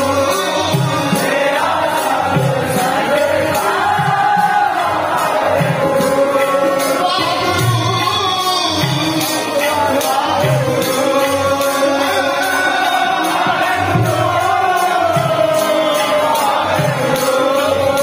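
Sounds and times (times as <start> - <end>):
accompanying instrument: 0.0 - 18.0
congregation singing: 0.0 - 18.0
men singing into microphones: 0.0 - 18.0.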